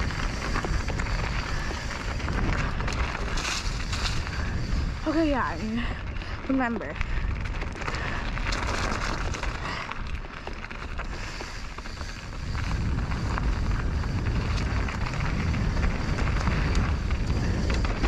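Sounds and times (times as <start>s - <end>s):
bike rattles and clicks: 0.0s - 18.0s
tyres rolling over dirt and rocks: 0.0s - 18.0s
wind rumbling on microphone: 0.0s - 18.0s.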